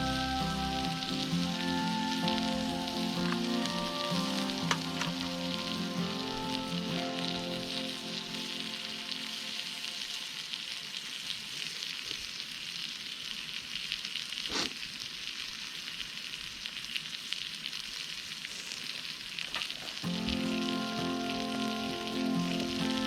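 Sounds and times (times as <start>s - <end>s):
food sizzling on griddle: 0.0s - 23.0s.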